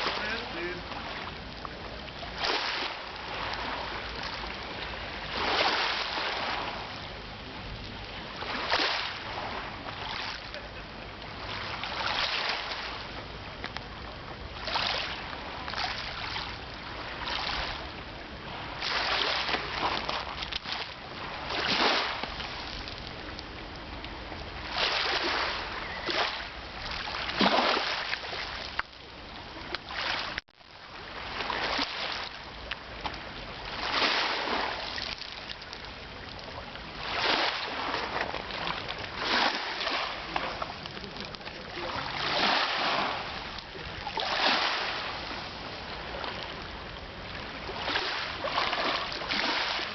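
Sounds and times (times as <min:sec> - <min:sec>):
waves washing on shore: 0:00.0 - 0:49.9.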